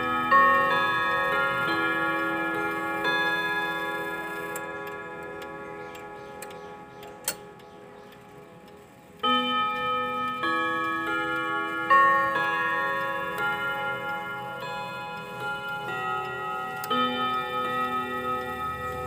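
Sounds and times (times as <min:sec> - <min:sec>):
chime rods ringing: 0:00.0 - 0:08.6, 0:09.2 - 0:19.0.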